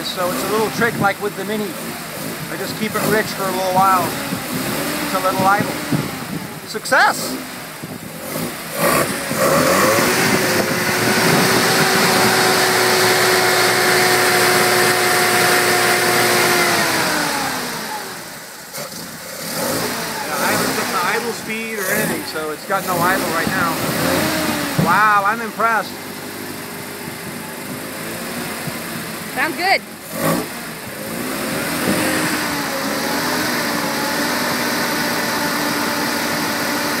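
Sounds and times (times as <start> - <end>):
rotary engine running: 0.0 - 37.0.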